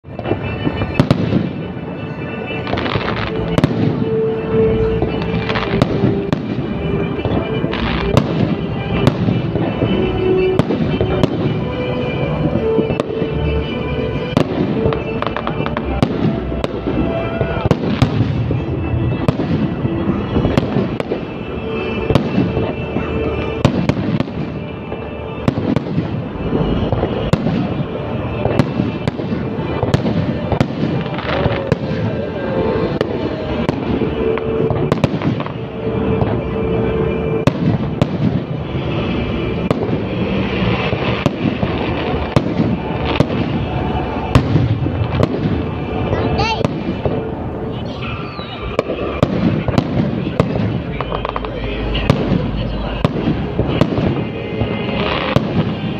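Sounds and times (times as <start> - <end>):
fireworks bursting with crackling: 0.0 - 55.9
music playing: 0.0 - 55.9.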